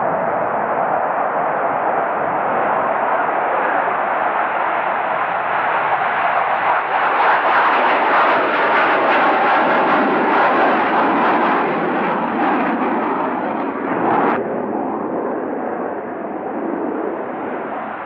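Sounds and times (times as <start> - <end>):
jet engines with afterburners: 0.0 - 18.0.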